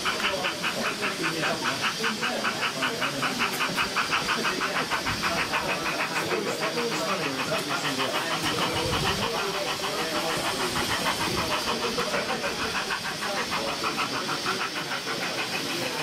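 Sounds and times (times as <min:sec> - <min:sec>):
wheels clicking on track: 0:00.0 - 0:16.0.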